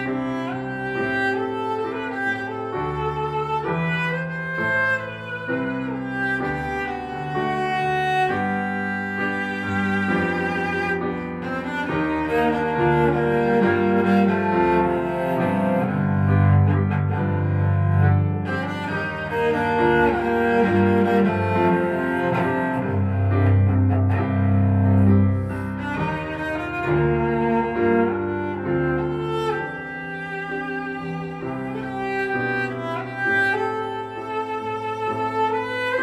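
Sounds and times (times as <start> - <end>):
cello playing slow melody: 0.0 - 36.0
piano: 0.0 - 36.0.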